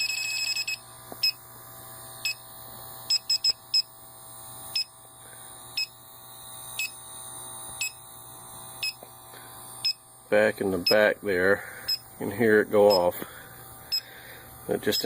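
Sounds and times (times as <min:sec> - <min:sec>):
leak detector beeping: 0:00.0 - 0:15.0.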